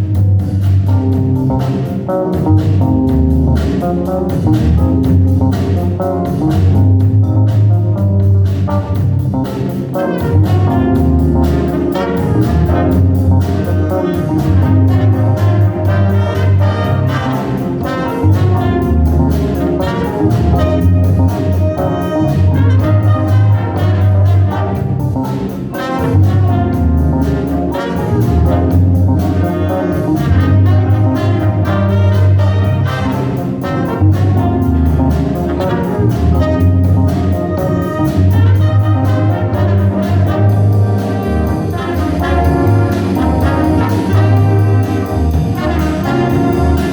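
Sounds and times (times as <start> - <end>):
brass horns melody: 0.0 - 46.9
jazz band playing: 0.0 - 46.9.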